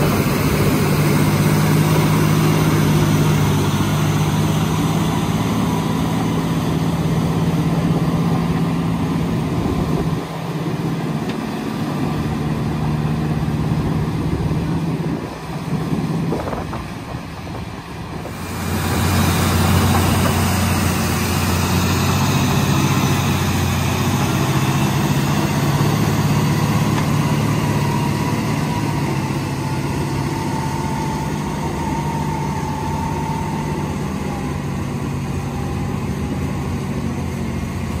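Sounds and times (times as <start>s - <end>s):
bulldozer diesel engine drone: 0.0s - 38.0s.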